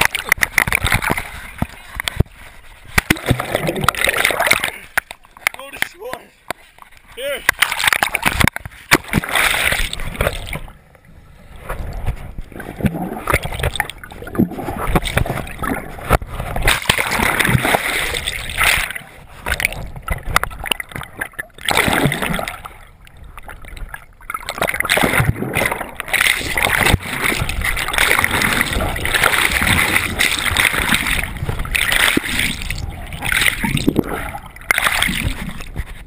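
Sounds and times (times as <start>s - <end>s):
river water splashing and gurgling: 0.0s - 36.0s.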